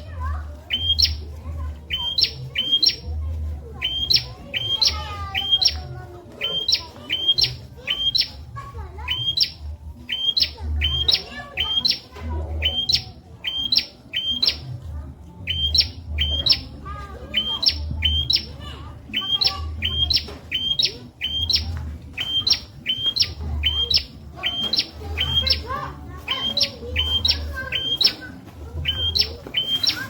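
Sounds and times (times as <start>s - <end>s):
bird chirping: 0.6s - 3.1s, 3.8s - 8.4s, 9.0s - 14.7s, 15.3s - 30.0s.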